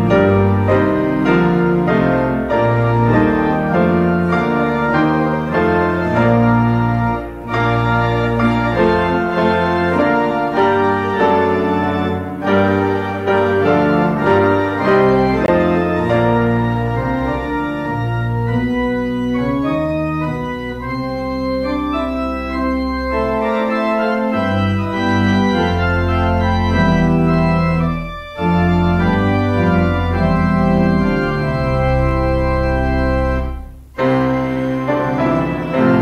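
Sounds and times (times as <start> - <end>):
church organ playing a hymn: 0.0 - 36.0.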